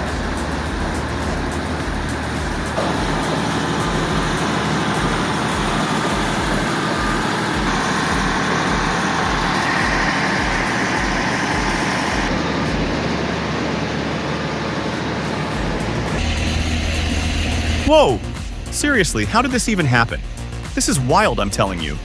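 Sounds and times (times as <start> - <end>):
wood chipper running: 0.0 - 20.8.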